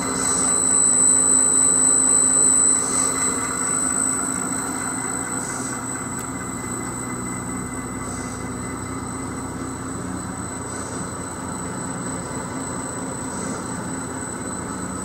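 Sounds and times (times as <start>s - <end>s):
motor and conveyor hum: 0.0s - 15.0s
thin high whine: 0.0s - 15.0s.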